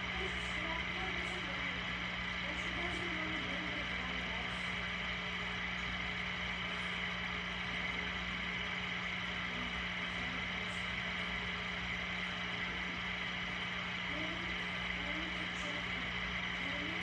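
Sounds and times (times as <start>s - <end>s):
machine humming and hissing: 0.0s - 17.0s.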